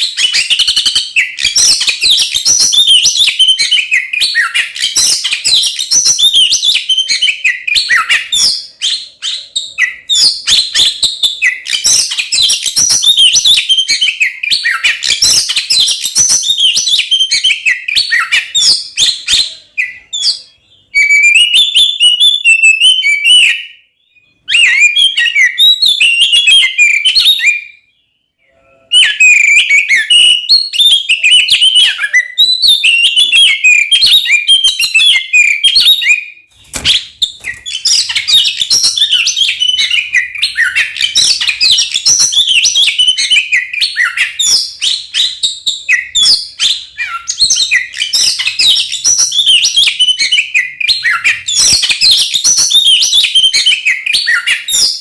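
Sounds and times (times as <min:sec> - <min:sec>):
songbird singing whistles and chatter: 0:00.0 - 0:55.0.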